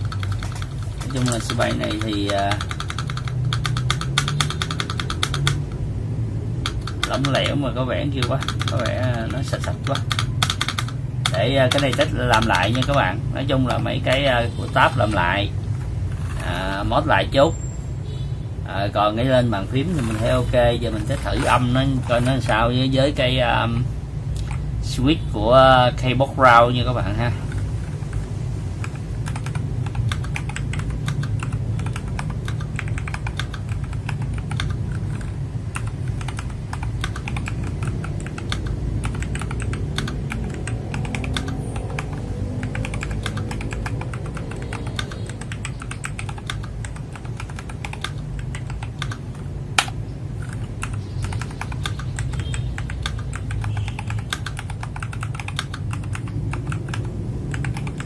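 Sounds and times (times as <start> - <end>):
mechanical keyboard typing: 0.0 - 5.8, 6.6 - 17.2, 19.3 - 23.4, 26.6 - 58.0.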